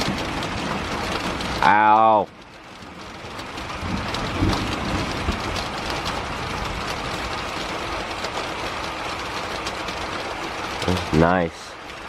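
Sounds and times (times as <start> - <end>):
thunder rumbling: 0.0 - 11.3
heavy rain falling: 0.0 - 12.0.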